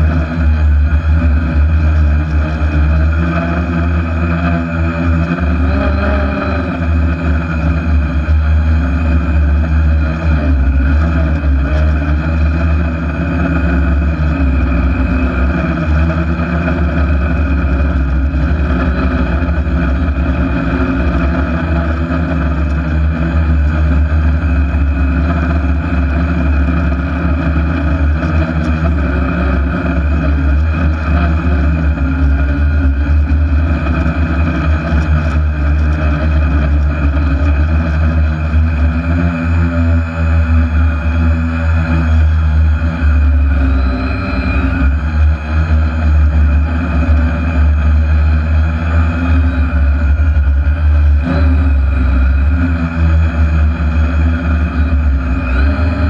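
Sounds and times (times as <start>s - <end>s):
deep rumble: 0.0s - 56.0s
drone motors buzzing: 0.0s - 56.0s.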